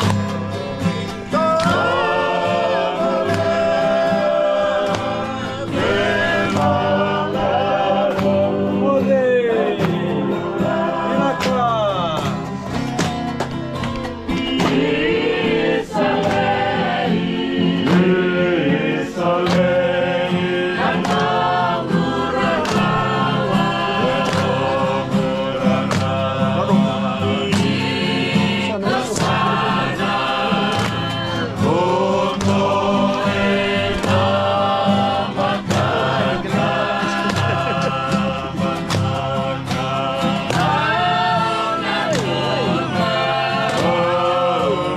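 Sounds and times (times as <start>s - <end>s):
choral gospel singing: 0.0s - 44.9s.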